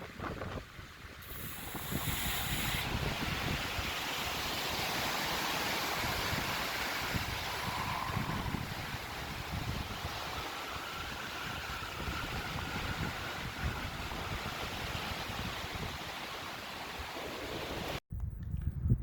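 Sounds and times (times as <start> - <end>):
strong wind blowing: 0.0 - 19.0
wind buffeting microphone: 0.0 - 19.0.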